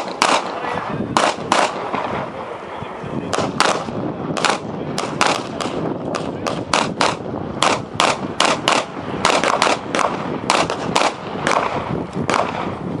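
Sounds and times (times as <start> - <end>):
pistol shots: 0.0 - 2.2, 3.3 - 12.8.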